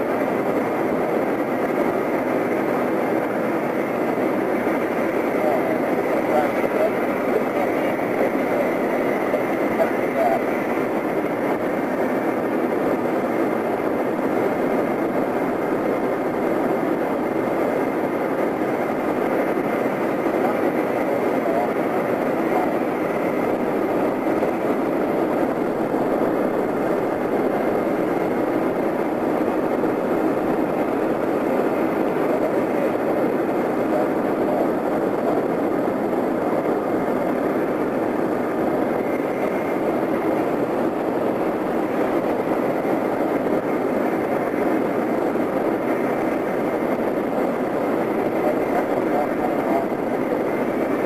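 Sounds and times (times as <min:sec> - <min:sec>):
air rushing past gliding plane: 0:00.0 - 0:51.0.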